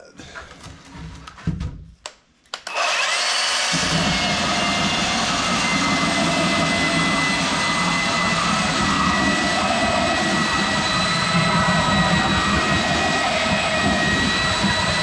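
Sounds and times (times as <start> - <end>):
belt sander motor whine: 2.7 - 15.0.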